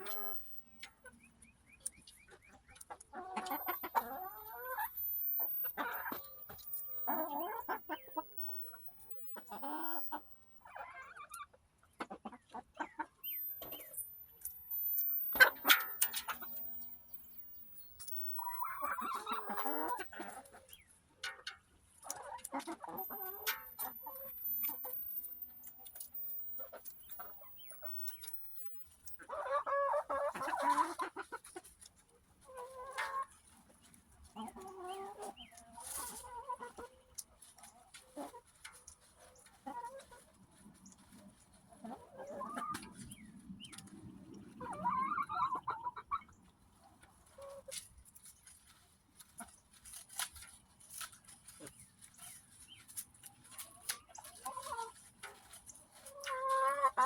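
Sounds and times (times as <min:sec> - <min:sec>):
hens clucking: 0:00.0 - 0:01.3, 0:02.3 - 0:57.0.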